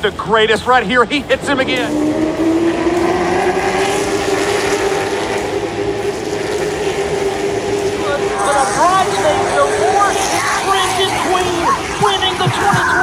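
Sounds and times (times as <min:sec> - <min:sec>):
race cars passing at full throttle: 0:00.0 - 0:13.0.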